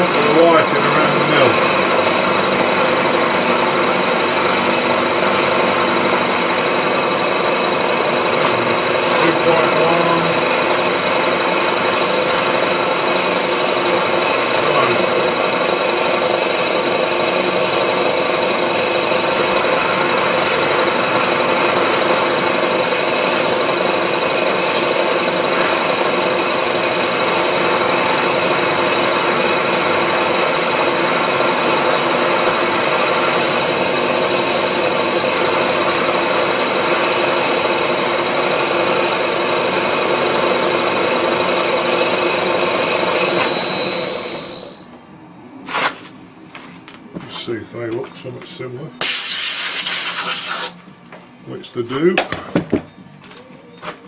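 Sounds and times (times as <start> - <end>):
milling machine running: 0.0 - 44.9.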